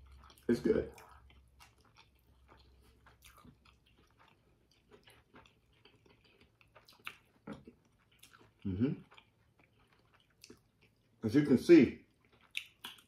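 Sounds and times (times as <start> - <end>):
person chewing food: 0.0 - 11.3, 12.0 - 13.0.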